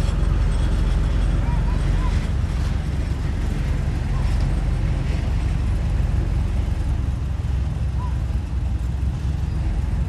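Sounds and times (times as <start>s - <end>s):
diesel engine rumble: 0.0s - 10.0s.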